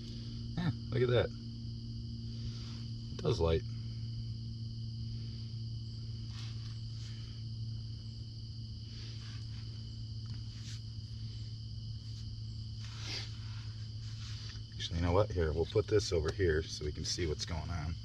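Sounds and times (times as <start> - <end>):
high-pitched insect chorus: 0.0 - 18.0
low steady hum: 0.0 - 18.0.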